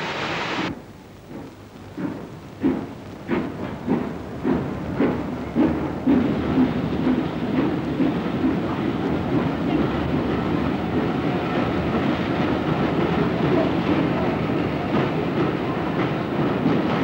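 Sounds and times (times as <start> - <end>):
train clickety-clack on rails: 0.6 - 17.0.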